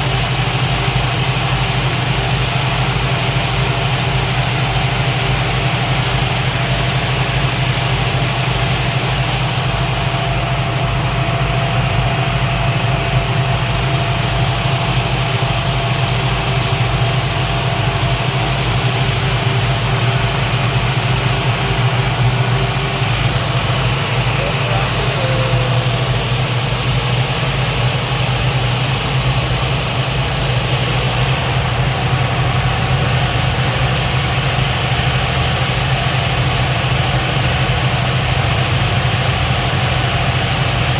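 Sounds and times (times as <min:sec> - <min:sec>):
speedboat engine humming: 0:00.0 - 0:40.9.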